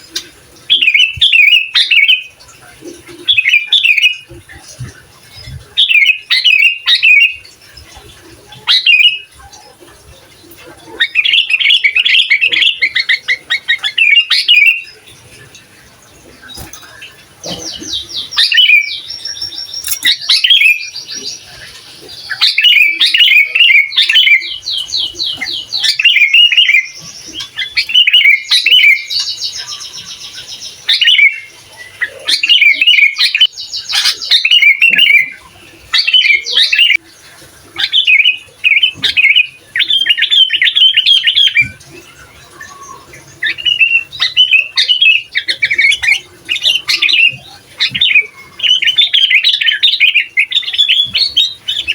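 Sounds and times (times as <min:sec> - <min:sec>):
bird singing with trills: 0:00.0 - 0:02.4, 0:03.2 - 0:04.3, 0:05.4 - 0:07.5, 0:08.5 - 0:09.8, 0:10.9 - 0:15.1, 0:16.4 - 0:37.1, 0:37.8 - 0:51.9.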